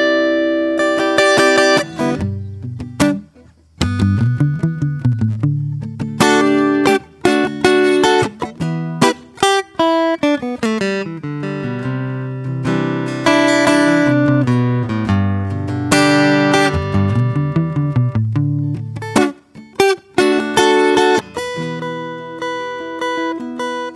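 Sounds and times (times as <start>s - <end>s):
acoustic guitar picking and strumming: 0.0s - 23.9s.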